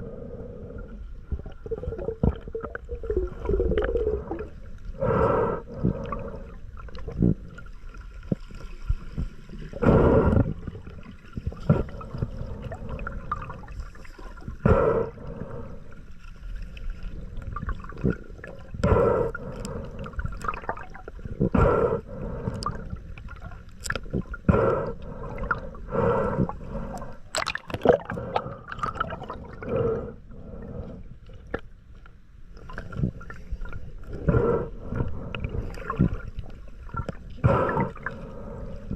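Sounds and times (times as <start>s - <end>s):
underwater gurgling and bubbling: 0.0s - 31.7s, 32.5s - 38.9s.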